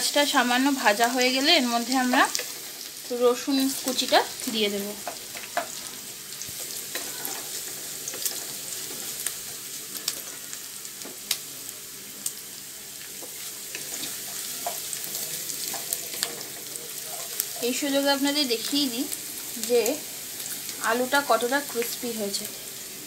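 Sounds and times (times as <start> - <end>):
onion sizzling in hot oil: 0.0 - 23.0
spattering oil crackles: 0.0 - 23.0.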